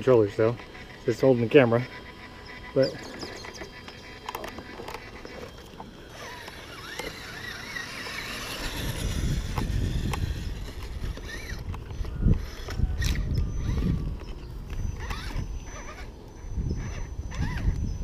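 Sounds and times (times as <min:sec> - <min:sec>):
toy car motor whirring: 0:00.0 - 0:18.0.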